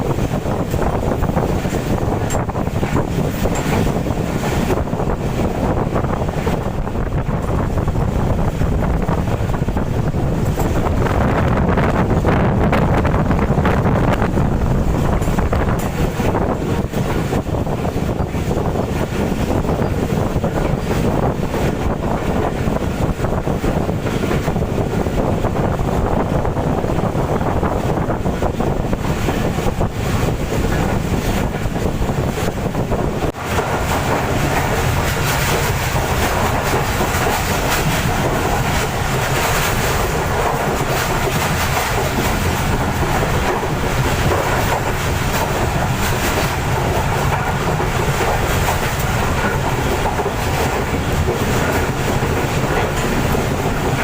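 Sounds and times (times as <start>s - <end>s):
train wheels clattering over rail joints: 0.0s - 54.0s
wind noise on microphone: 0.0s - 54.0s.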